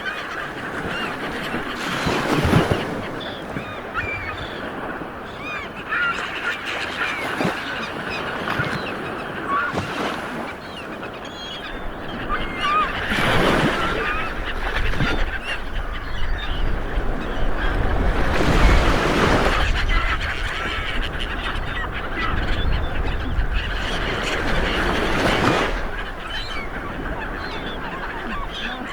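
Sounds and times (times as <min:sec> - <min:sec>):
birds calling: 0:00.0 - 0:28.9
sea waves washing onto shore: 0:00.0 - 0:28.9.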